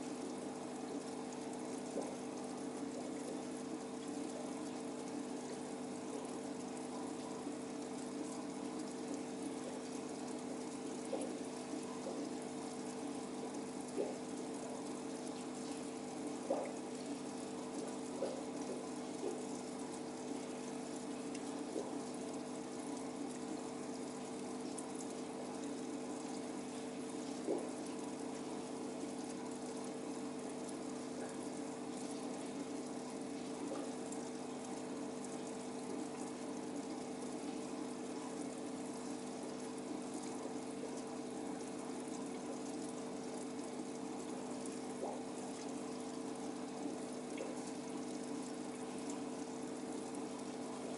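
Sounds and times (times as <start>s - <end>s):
aquarium pump humming: 0.0s - 50.9s
moving water: 0.0s - 50.9s
faint ticks: 0.1s - 50.9s.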